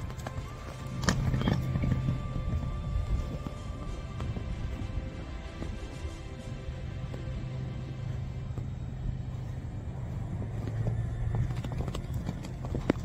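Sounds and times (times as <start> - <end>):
background music: 0.0 - 13.0
horse hooves thudding on ground: 0.0 - 13.0
low steady rumble: 0.0 - 13.0.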